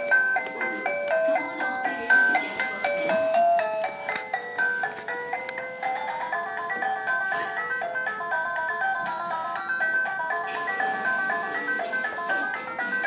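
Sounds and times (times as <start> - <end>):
electronic toy jingle: 0.0 - 13.0.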